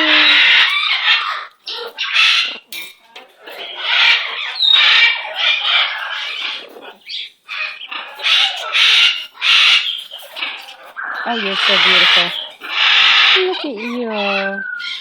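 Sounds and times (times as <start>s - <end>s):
parrot squawking: 0.0s - 2.6s, 3.4s - 15.0s.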